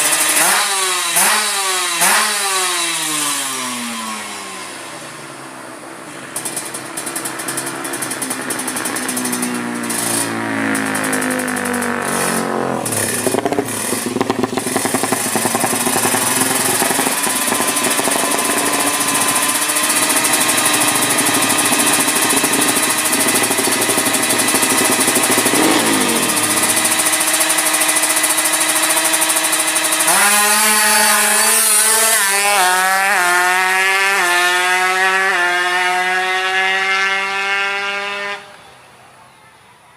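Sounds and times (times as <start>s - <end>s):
motorbike engine revving: 0.0s - 38.6s.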